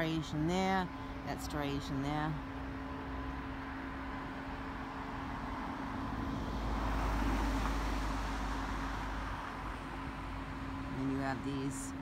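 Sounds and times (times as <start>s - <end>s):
constant low hum: 0.0s - 12.0s
outdoor background rumble: 0.0s - 12.0s.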